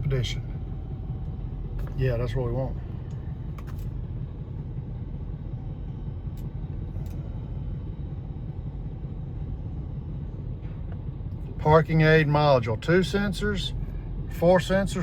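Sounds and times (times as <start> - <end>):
engine idling low rumble: 0.0 - 15.0.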